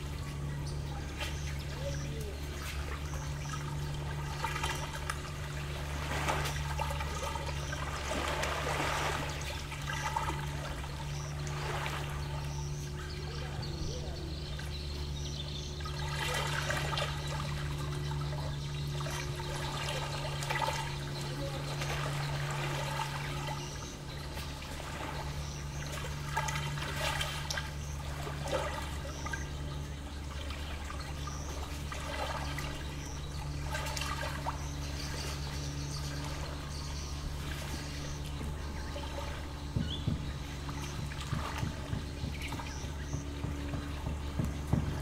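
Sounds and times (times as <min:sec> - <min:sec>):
low hum: 0:00.0 - 0:45.0
waves lapping on shore: 0:01.0 - 0:13.6, 0:15.9 - 0:45.0.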